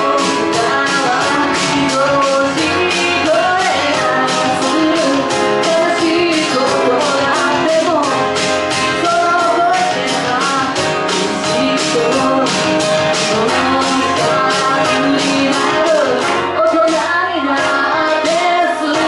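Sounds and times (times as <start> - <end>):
pop music with steady beat: 0.0 - 19.0
woman singing into microphone: 0.0 - 19.0.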